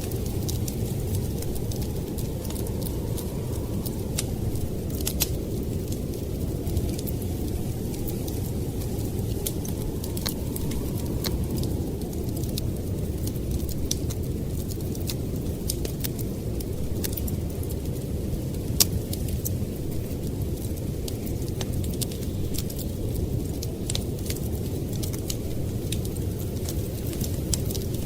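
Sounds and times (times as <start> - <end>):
blizzard wind rumbling: 0.0 - 28.0
wood fire crackling and popping: 0.0 - 28.0.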